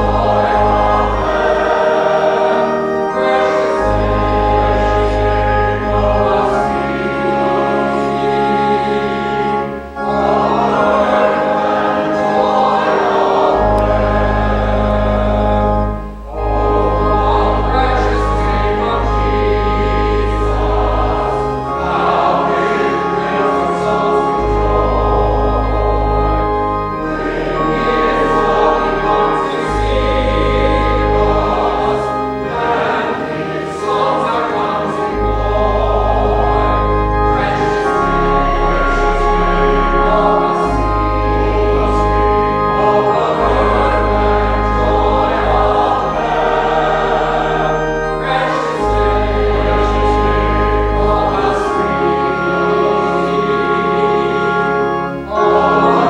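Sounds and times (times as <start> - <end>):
congregation singing a hymn: 0.0 - 56.0
long bass accompaniment notes: 0.0 - 56.0.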